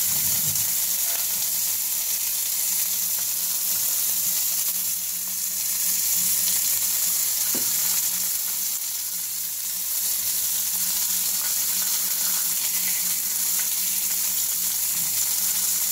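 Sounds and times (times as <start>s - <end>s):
grease sizzling in a frying pan: 0.0s - 15.9s.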